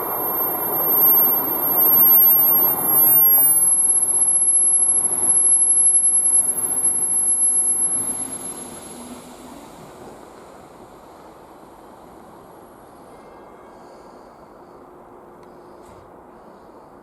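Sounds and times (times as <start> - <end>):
train passing on rails: 0.0 - 17.0.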